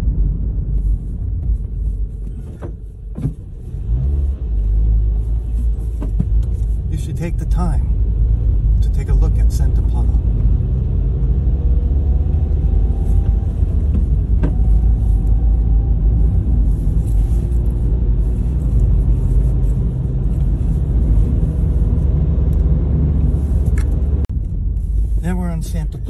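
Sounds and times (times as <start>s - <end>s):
car driving rumble from inside: 0.0s - 26.0s.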